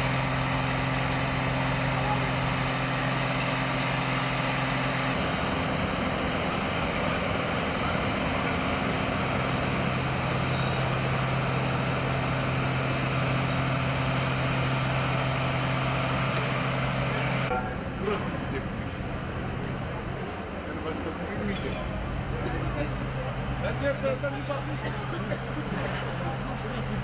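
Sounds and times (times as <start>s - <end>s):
engine and pump humming: 0.0s - 27.0s.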